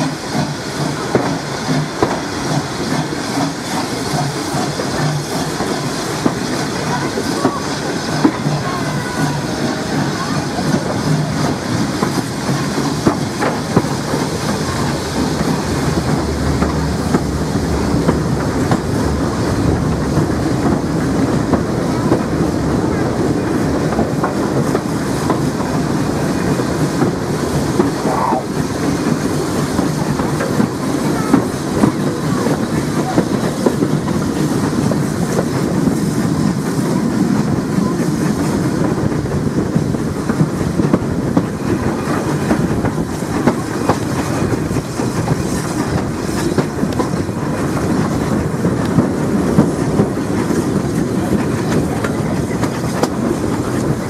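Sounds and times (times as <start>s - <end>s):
steam train running: 0.0s - 54.0s.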